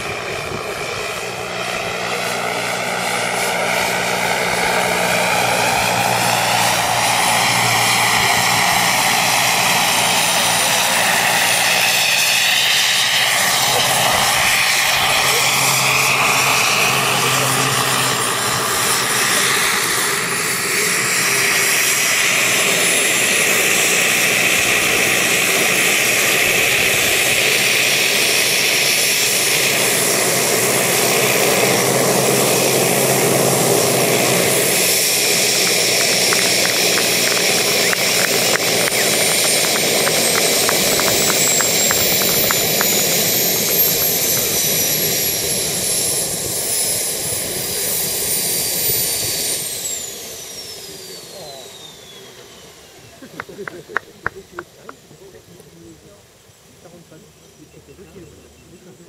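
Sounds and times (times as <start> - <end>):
helicopter rotors: 0.0 - 59.0
high turbine whine: 0.0 - 59.0.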